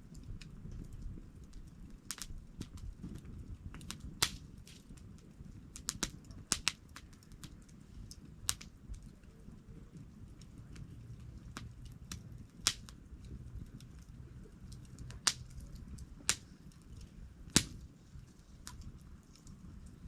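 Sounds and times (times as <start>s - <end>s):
campfire crackling: 0.0s - 20.0s
low rumble of flames: 0.0s - 20.0s
sharp pops of fire: 0.0s - 20.0s.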